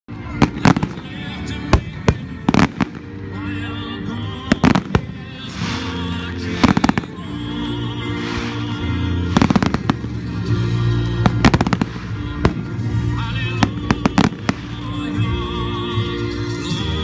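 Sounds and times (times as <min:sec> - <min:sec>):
fireworks bangs and crackles: 0:00.1 - 0:03.6, 0:04.2 - 0:16.3
background music: 0:00.1 - 0:17.0.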